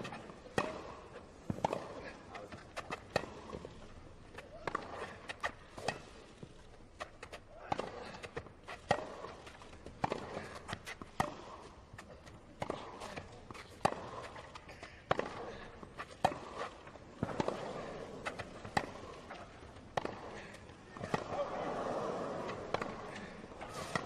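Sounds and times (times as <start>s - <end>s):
tennis ball struck by rackets: 0.0s - 21.6s, 22.2s - 24.0s.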